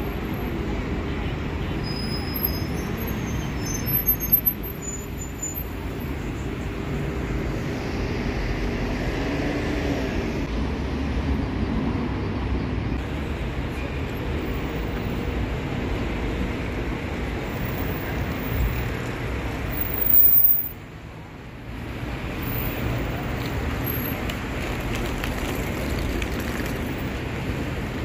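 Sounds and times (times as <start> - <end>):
city traffic rumble: 0.0 - 28.0.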